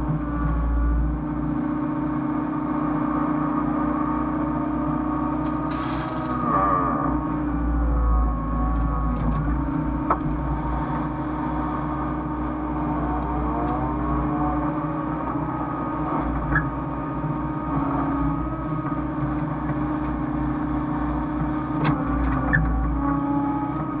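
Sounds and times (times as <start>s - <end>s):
excavator diesel engine under load: 0.0s - 24.0s
hydraulic whine: 0.0s - 24.0s.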